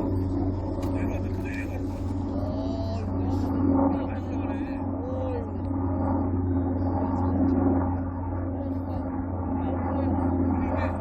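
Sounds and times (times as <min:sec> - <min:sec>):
low two-tone hum: 0:00.0 - 0:11.0.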